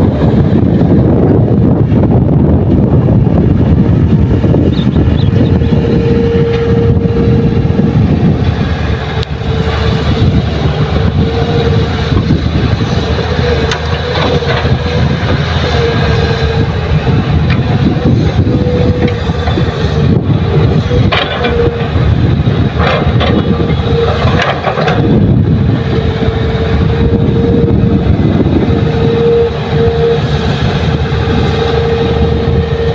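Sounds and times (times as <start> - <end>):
high whine: 0.0 - 22.6, 24.9 - 32.9
heavy diesel machinery rumbling: 0.0 - 32.9.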